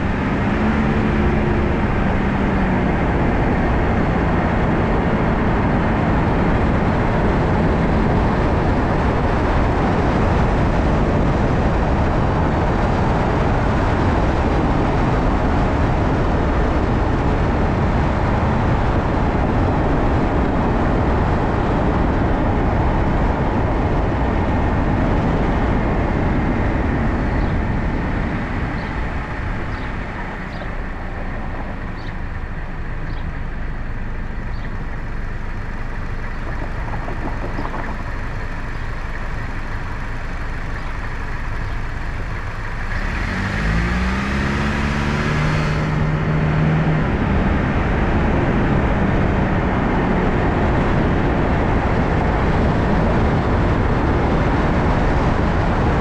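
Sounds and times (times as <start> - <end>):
car engine accelerating: 0.0 - 56.0
tyre and road rumble: 0.0 - 56.0.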